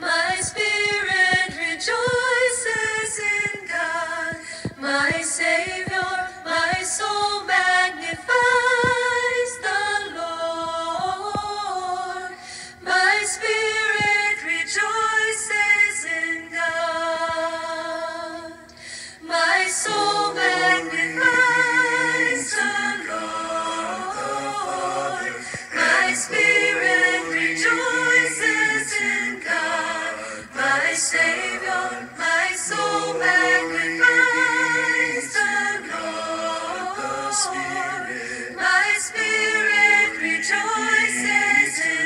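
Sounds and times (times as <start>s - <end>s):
choir singing: 0.0s - 18.6s, 19.2s - 42.0s.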